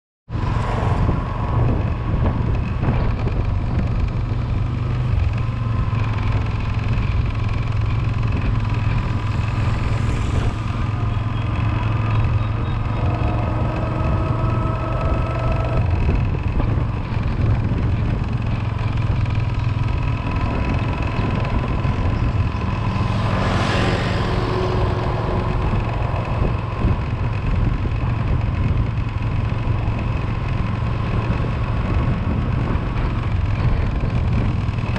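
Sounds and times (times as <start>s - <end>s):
road noise: 0.3s - 34.9s
vehicle engine hum: 0.3s - 34.9s.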